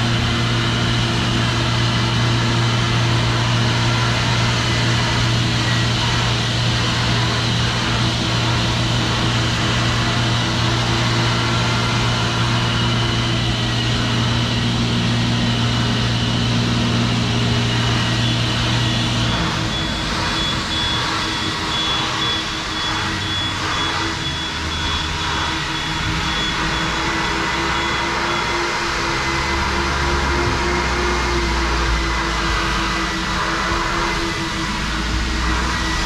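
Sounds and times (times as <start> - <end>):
car wash machinery rushing: 0.0 - 36.0.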